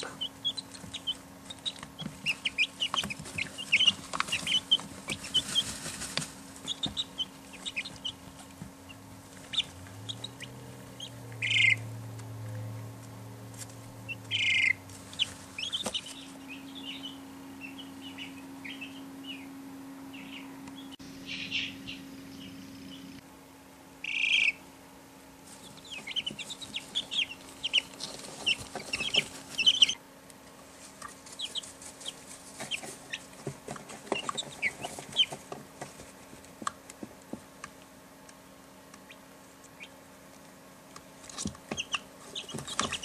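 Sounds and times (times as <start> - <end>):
chicks peeping: 0.0 - 23.2, 24.0 - 30.1, 30.7 - 37.4, 38.9 - 40.1, 40.9 - 43.0.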